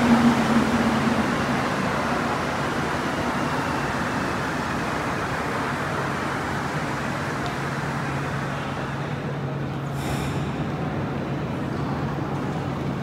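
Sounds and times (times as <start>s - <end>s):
metro train rumble and hiss: 0.0s - 13.0s.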